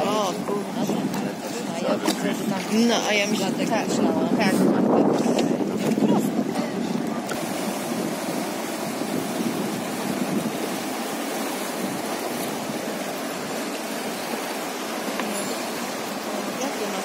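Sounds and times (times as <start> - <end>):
river rushing over riffles: 0.0 - 17.0.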